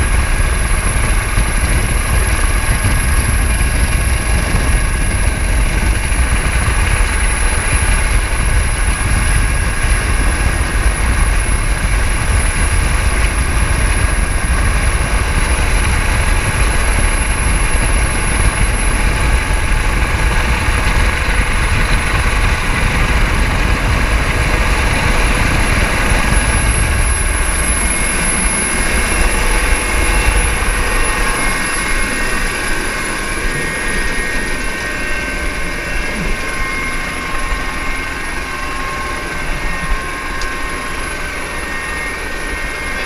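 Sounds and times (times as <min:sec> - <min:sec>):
helicopter rotor and engine: 0:00.0 - 0:43.0.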